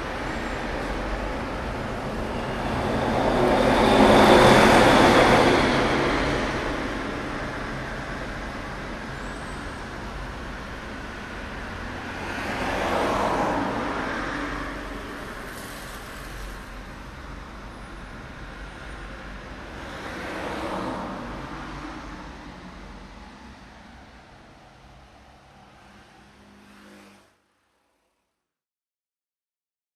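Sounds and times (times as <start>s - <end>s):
low traffic rumble: 0.0s - 26.9s
vehicles passing by: 0.0s - 27.3s.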